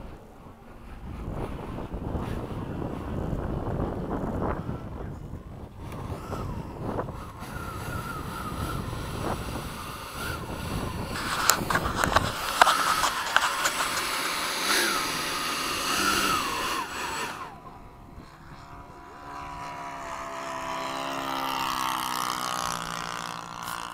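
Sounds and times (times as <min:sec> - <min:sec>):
electric ducted fans whining: 0:00.0 - 0:23.9
steady multi-tone hum: 0:00.0 - 0:23.9
wind on microphone: 0:00.0 - 0:23.9.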